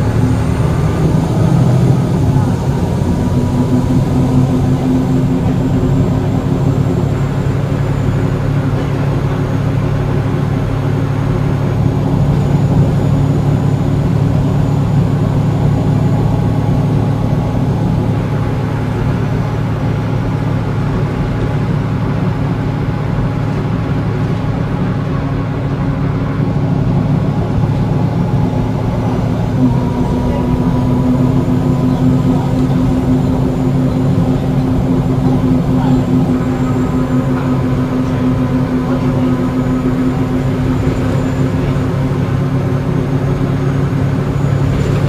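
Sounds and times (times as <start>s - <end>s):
bus diesel engine running: 0.0s - 45.0s.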